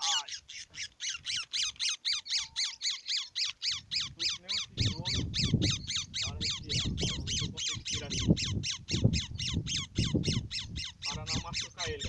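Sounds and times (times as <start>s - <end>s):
parakeet screeching: 0.0s - 12.0s.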